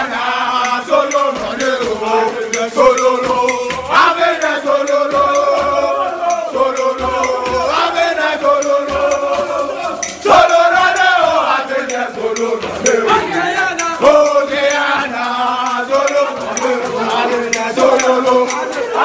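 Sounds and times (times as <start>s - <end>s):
men singing a chant: 0.0s - 19.0s.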